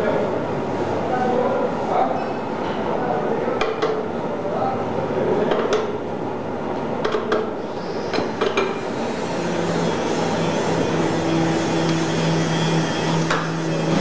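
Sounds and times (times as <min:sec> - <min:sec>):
workshop machine noise: 0:00.0 - 0:14.0.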